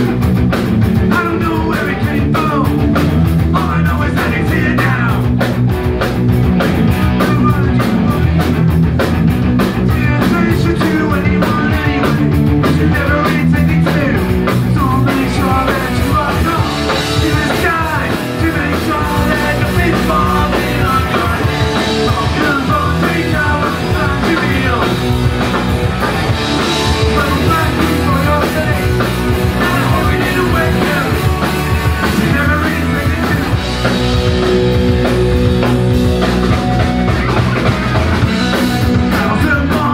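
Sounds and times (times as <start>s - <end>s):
punk rock band playing: 0.0s - 39.9s.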